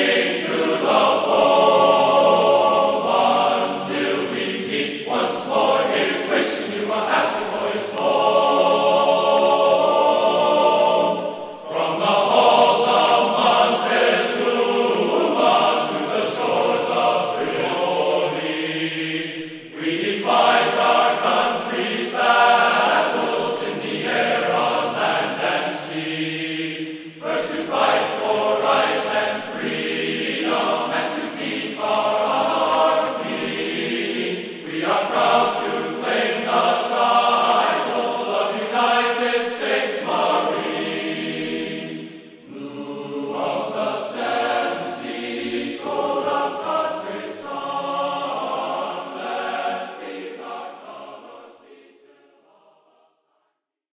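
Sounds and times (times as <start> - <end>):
choral singing: 0.0 - 53.3.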